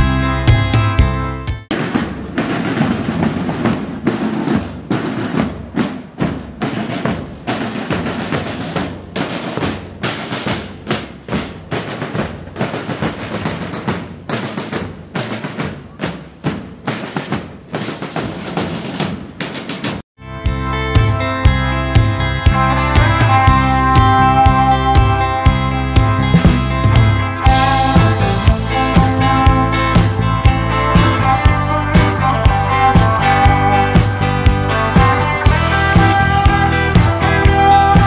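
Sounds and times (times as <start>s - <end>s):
bass drums and snare drums: 0.0s - 38.0s.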